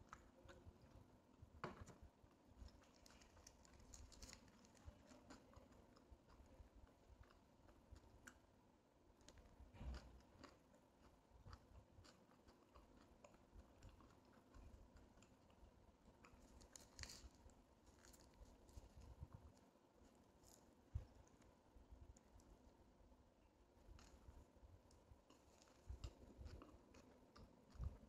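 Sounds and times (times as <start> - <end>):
faint chewing of food: 0.0 - 28.0.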